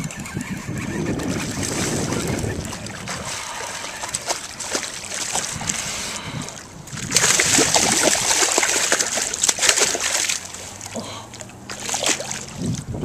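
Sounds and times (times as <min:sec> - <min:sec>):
fish splashing at water surface: 0:01.3 - 0:12.8.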